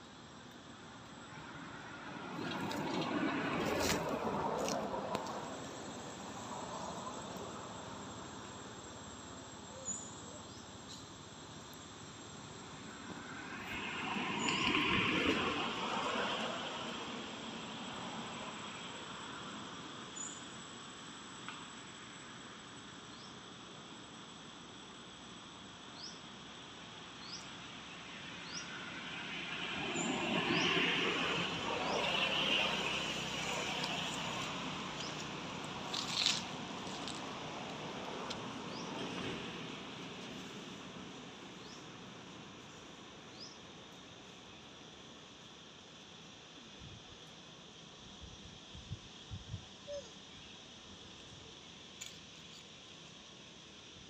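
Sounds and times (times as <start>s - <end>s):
insects trilling: 0.0s - 54.0s
outdoor background noise: 0.0s - 54.0s.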